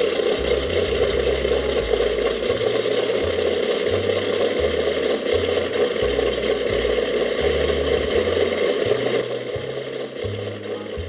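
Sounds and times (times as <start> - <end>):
low hum: 0.0 - 11.0
machine whirring clatter: 0.0 - 11.0.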